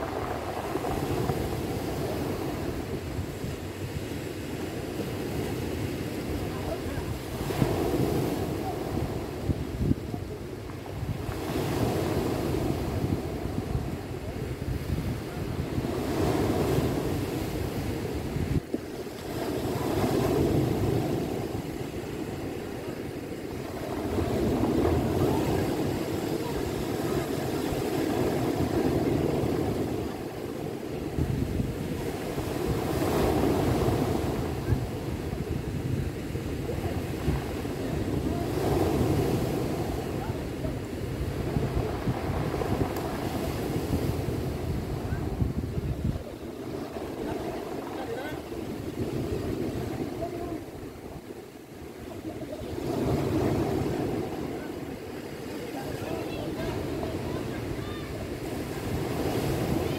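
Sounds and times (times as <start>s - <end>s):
surf washing over cobbles: 0.0s - 59.9s
wind on microphone: 0.0s - 59.9s.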